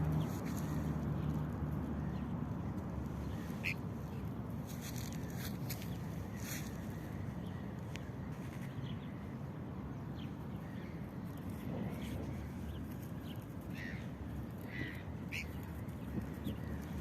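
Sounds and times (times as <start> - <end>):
steady low rumble: 0.0 - 17.0
starlings chirping: 2.0 - 17.0.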